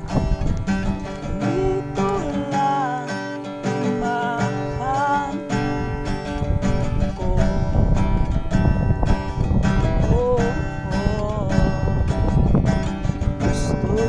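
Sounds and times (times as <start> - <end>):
strummed acoustic guitar music: 0.0 - 14.0.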